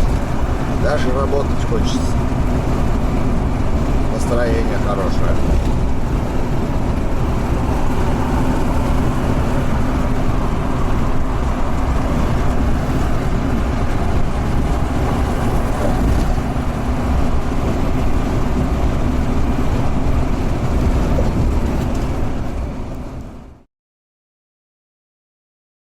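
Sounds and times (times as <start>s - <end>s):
truck engine and road noise: 0.0s - 23.7s.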